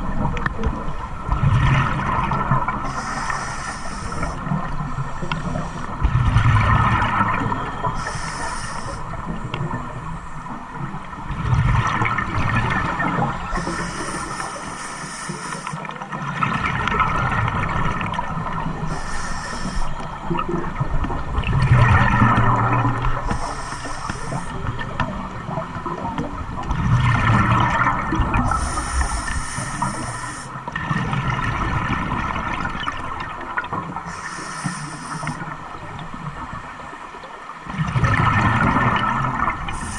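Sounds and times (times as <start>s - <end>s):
gurgling water-like sound: 0.0s - 39.9s.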